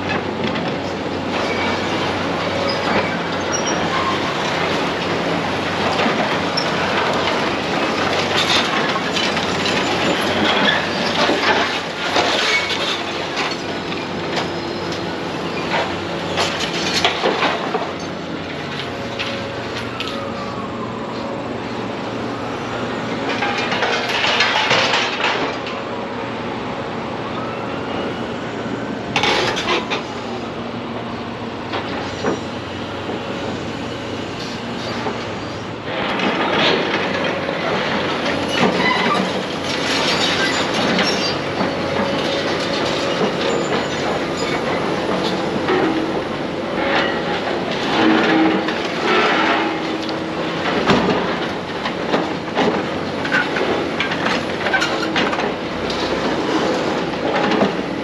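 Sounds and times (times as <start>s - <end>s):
demolition machinery din: 0.0s - 58.0s.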